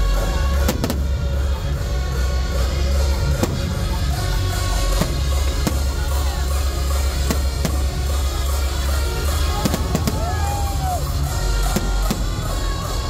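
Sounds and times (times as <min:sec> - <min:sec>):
loud music with heavy bass: 0:00.0 - 0:13.0
fireworks bangs: 0:00.5 - 0:01.4, 0:03.0 - 0:13.0.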